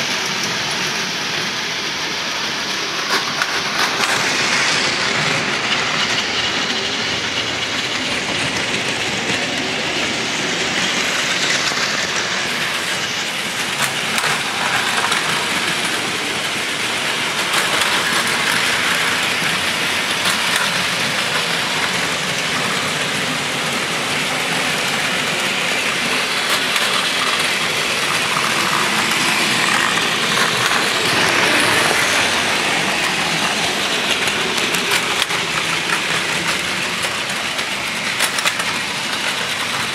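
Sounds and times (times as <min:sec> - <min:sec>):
wheels clattering over track joints: 0:00.0 - 0:39.9
whir of small toy train motors: 0:00.0 - 0:39.9.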